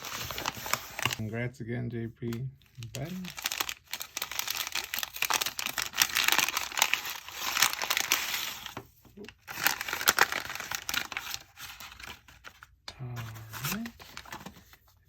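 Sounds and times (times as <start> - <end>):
package packaging crinkling: 0.0 - 1.2, 2.7 - 15.0.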